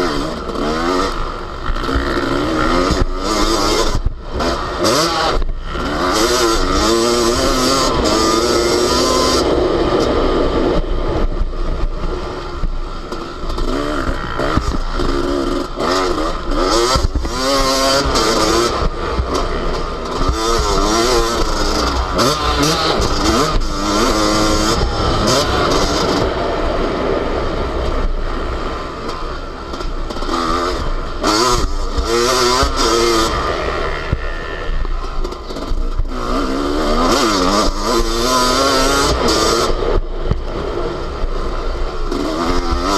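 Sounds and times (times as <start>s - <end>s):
motocross engine revving: 0.0s - 42.9s.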